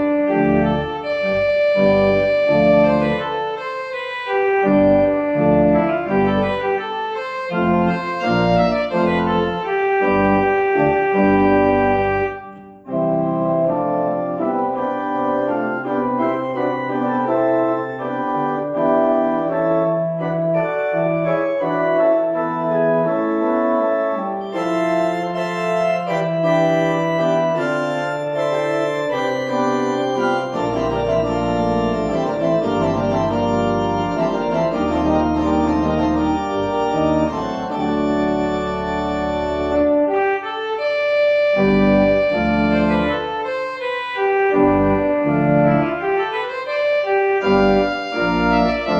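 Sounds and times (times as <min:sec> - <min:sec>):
church organ chords: 0:00.0 - 0:48.9
deep organ bass pedal notes: 0:00.0 - 0:48.9.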